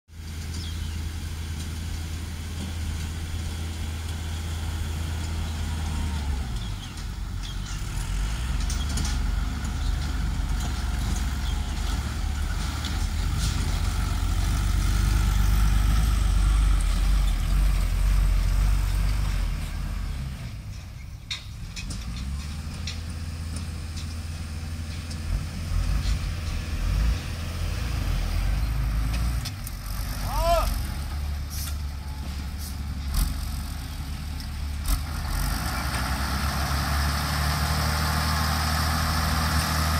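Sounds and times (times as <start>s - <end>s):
diesel truck driving over dirt: 0.1s - 39.9s.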